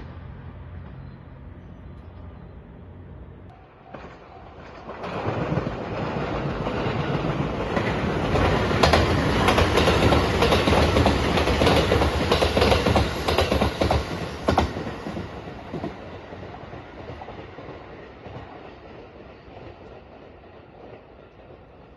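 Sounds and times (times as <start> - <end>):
train wheels clacking over rail joints: 3.8 - 21.6.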